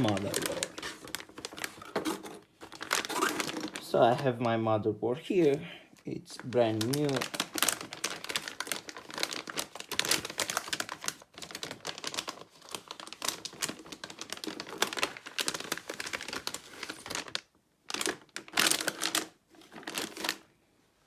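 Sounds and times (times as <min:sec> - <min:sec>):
packaging crinkling and rustling: 0:00.0 - 0:04.6, 0:05.3 - 0:20.6.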